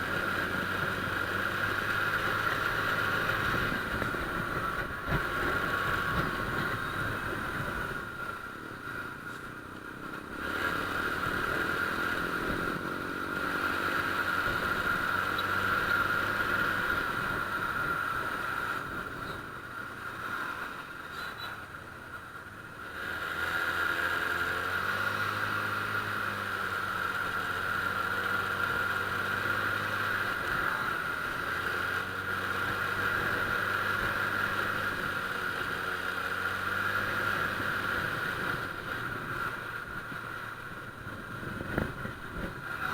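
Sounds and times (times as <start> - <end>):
scooter engine running: 0.0 - 42.9.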